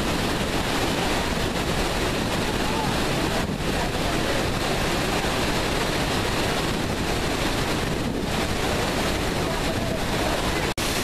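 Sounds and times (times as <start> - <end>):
waterfall roaring: 0.0 - 11.0
wind noise on microphone: 0.0 - 11.0.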